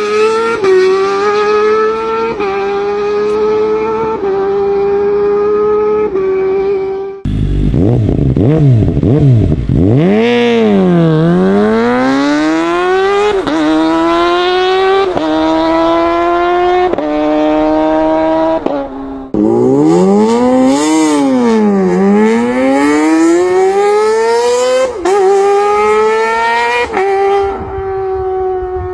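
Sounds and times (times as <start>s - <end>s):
motorcycle engine revving and accelerating: 0.0s - 28.9s.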